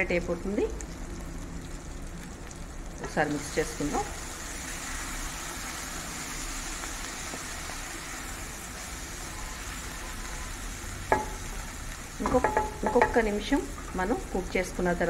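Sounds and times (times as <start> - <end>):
curry sizzling in a pan: 0.0 - 15.0.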